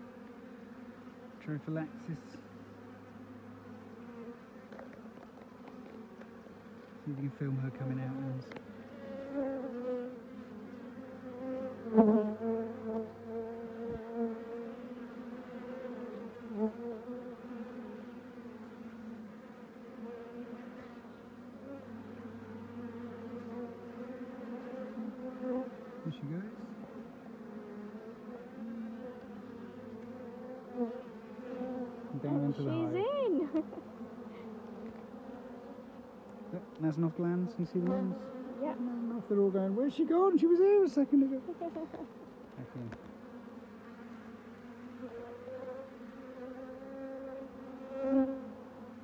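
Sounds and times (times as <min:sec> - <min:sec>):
bee colony humming: 0:00.0 - 0:49.0
bees buzzing past: 0:00.0 - 0:49.0.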